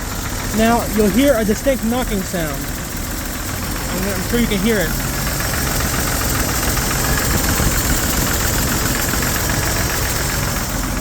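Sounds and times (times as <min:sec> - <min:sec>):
engine idling with knocking: 0:00.0 - 0:11.0.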